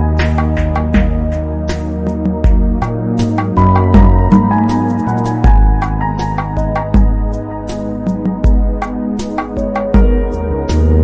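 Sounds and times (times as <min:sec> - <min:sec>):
instrumental music: 0:00.0 - 0:11.0.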